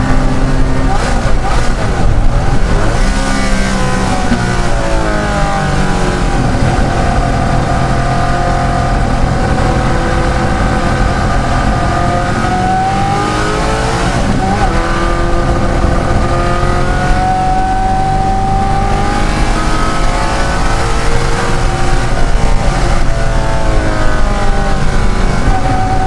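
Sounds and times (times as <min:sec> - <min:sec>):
racing engine under load: 0:00.0 - 0:26.0.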